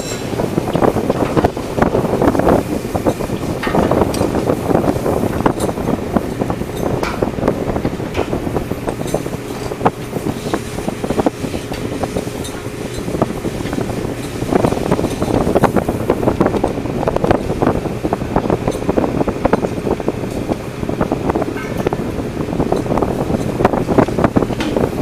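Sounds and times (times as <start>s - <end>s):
boat engine and deck machinery: 0.0s - 25.0s
wind on microphone: 0.0s - 25.0s.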